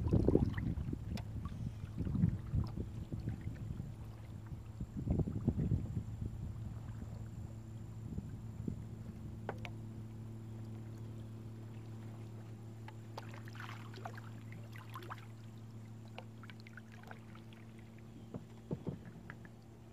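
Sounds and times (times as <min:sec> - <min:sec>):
paddle splashes and drips: 0:00.0 - 0:19.9
steady low hum: 0:00.0 - 0:19.9.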